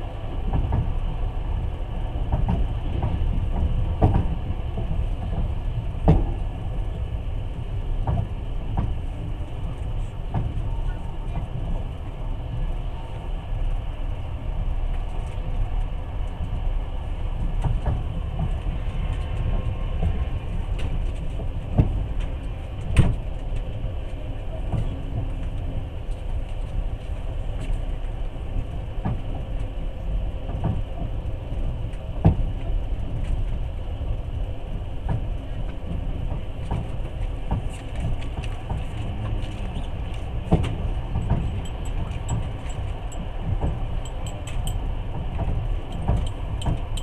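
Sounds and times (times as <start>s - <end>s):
train carriage rumbling: 0.0s - 47.0s.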